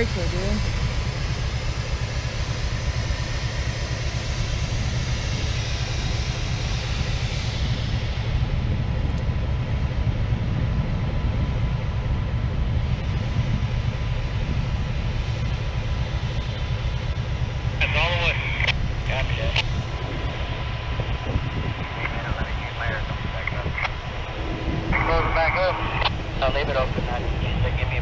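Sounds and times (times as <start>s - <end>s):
locomotive idling rumble: 0.0s - 28.0s.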